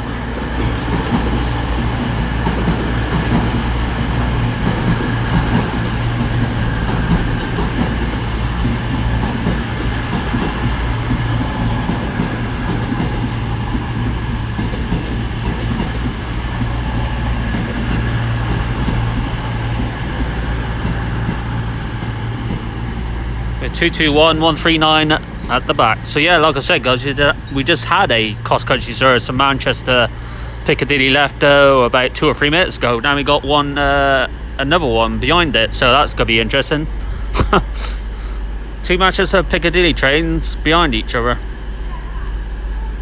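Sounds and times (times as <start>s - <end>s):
train diesel engines droning: 0.0s - 43.0s
train wheels on rails: 0.0s - 43.0s.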